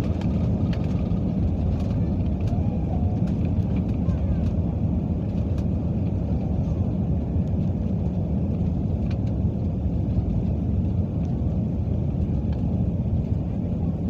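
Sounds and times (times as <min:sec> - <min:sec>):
airliner cabin engine noise: 0:00.0 - 0:14.0.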